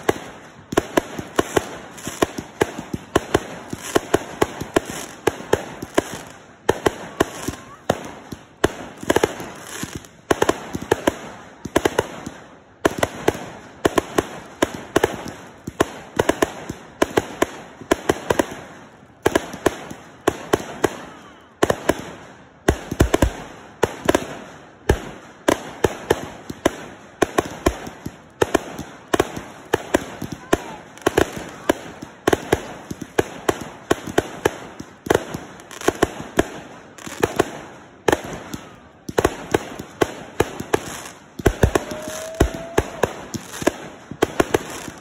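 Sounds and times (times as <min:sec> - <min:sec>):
fireworks thumps and bursts: 0:00.0 - 0:45.0.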